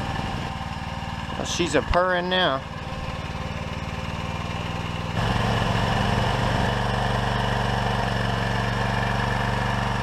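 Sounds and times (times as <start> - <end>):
generator engine purring: 0.0 - 10.0.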